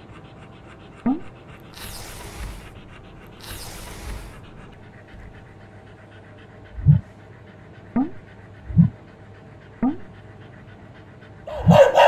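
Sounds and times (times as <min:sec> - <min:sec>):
dog sniffing: 0:00.0 - 0:12.0.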